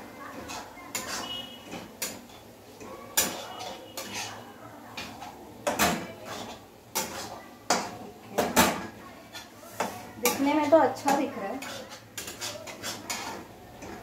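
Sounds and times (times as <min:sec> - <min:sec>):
metal spatula scraping pan: 0:00.2 - 0:14.0.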